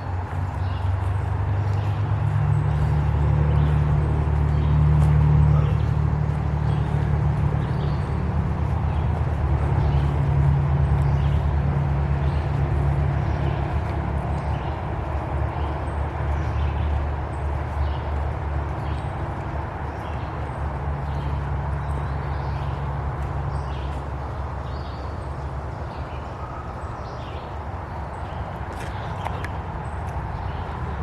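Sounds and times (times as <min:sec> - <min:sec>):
footsteps on dirt trail: 0:00.0 - 0:26.1, 0:27.3 - 0:31.0.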